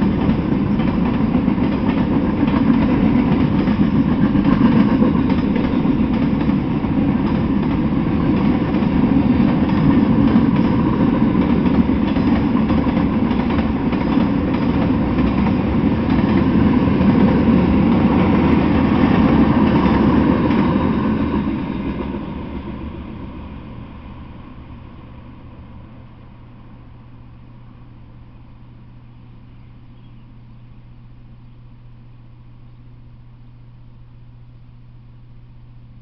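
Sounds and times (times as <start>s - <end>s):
freight train rolling past: 0.0s - 30.4s.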